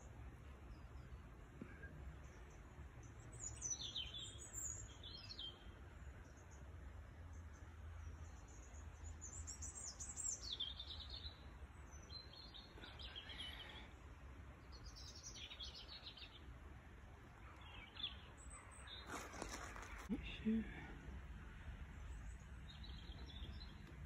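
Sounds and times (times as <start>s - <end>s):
songbird chirping: 0.0s - 24.0s.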